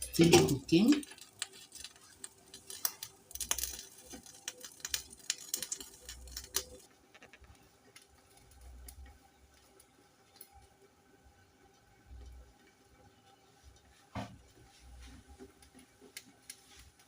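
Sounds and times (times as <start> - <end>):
potatoes boiling in a pot: 0.0 - 17.0.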